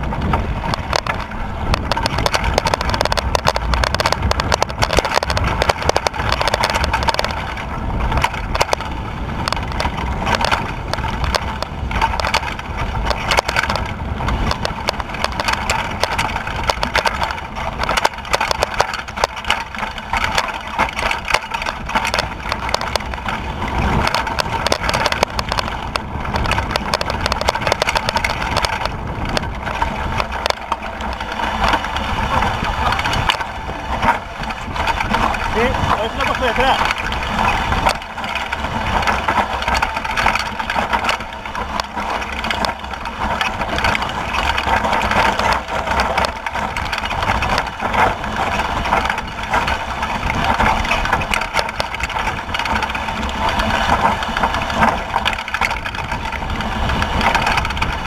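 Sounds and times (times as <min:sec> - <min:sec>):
low rumble: 0:00.0 - 0:58.0
mountain bike rattling on rocks: 0:00.0 - 0:58.0.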